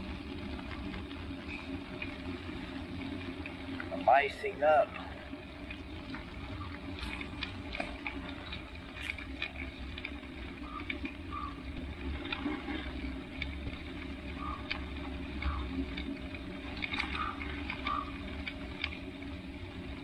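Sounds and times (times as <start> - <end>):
bicycle tyres rolling on ice: 0.0 - 20.0.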